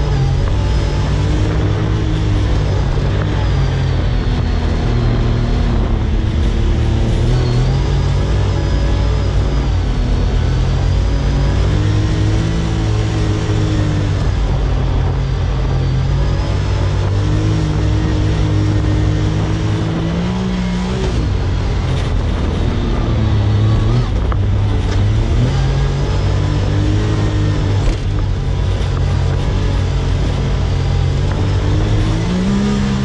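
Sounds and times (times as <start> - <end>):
utility vehicle engine revving: 0.0 - 33.0.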